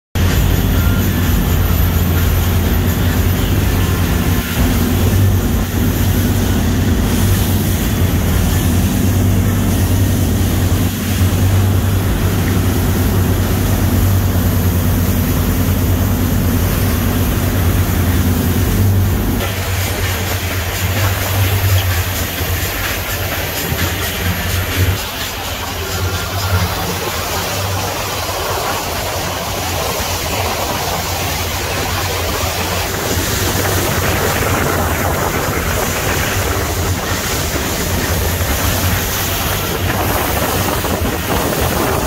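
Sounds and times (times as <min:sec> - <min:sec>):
boat engine low drone: 0:00.2 - 0:42.0
wake and wind rushing: 0:00.2 - 0:42.0.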